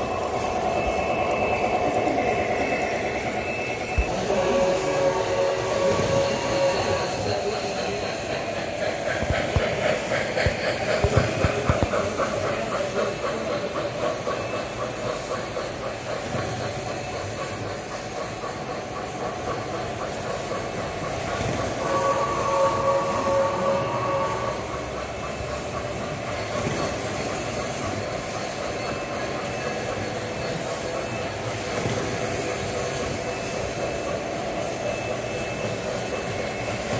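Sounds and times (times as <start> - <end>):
model train wheels clicking on rails: 0.0 - 36.9
steady held tone: 0.0 - 36.9.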